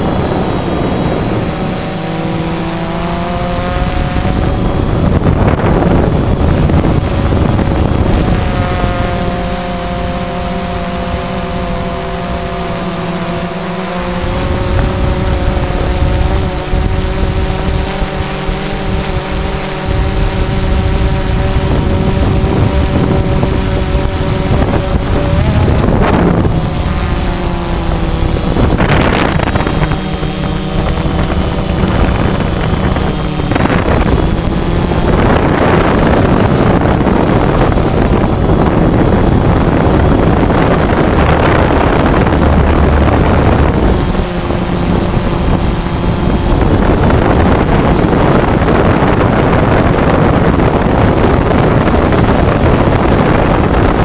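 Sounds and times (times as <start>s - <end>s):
drone motors humming: 0.0s - 54.0s
wind rushing on microphone: 0.0s - 54.0s.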